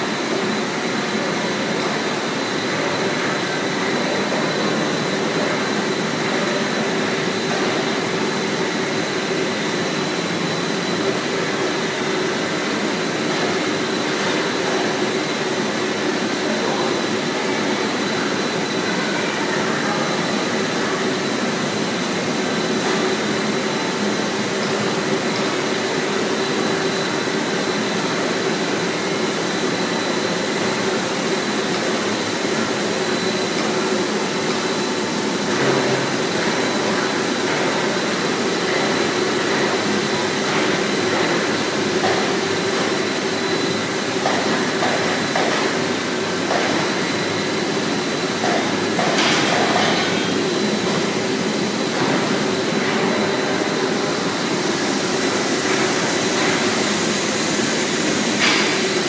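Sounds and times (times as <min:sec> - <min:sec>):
coating machine running: 0:00.0 - 0:59.0
high machine whine: 0:00.0 - 0:59.0.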